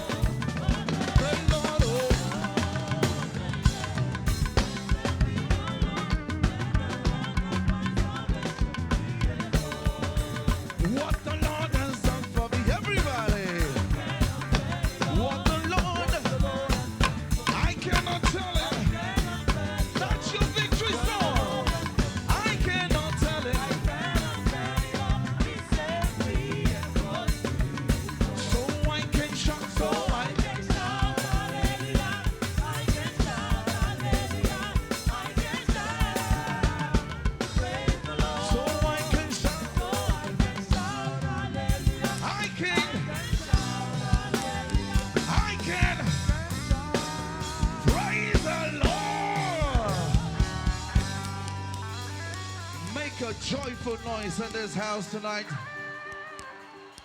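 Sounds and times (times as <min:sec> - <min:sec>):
drum kit beat: 0:00.0 - 0:53.5
bass: 0:00.0 - 0:54.9
voices singing: 0:00.0 - 0:57.0.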